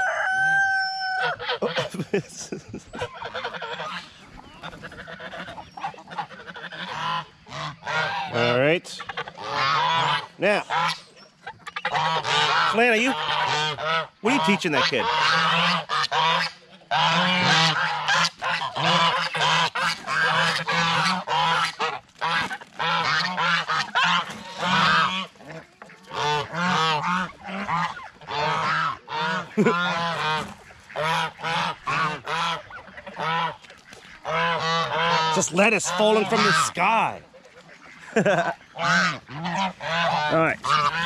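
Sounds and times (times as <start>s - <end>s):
geese honking: 0.0s - 41.0s.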